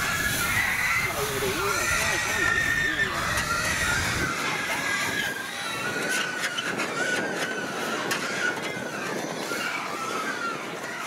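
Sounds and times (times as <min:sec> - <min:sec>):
wavering high whine: 0:00.0 - 0:11.0.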